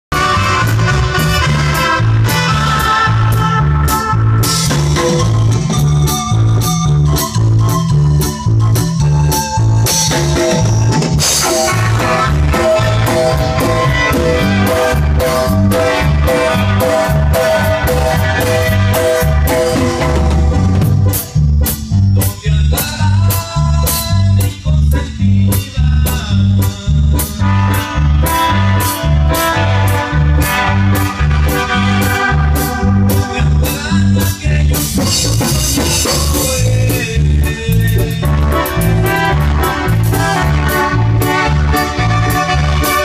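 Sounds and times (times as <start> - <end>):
bass line: 0.0 - 43.0
drums: 0.1 - 43.0
keyboard melody: 0.1 - 43.0.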